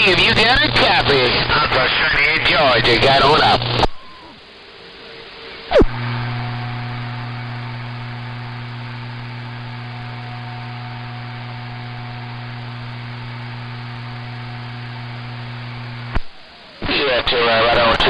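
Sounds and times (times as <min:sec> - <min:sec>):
radio static: 0:00.0 - 0:04.4, 0:05.7 - 0:18.0
electrical hum: 0:00.0 - 0:18.0.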